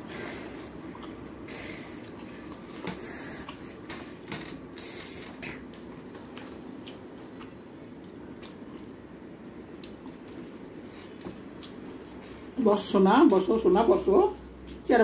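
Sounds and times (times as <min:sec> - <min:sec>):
wet squelches of fingers mixing food: 0:00.0 - 0:12.9
chewing and lip-smacking: 0:00.2 - 0:12.4.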